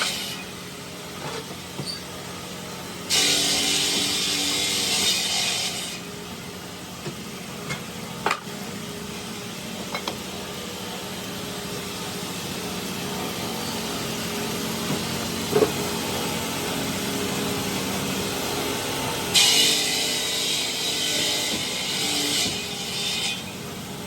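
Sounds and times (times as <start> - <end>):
machinery hum: 0.0 - 22.0.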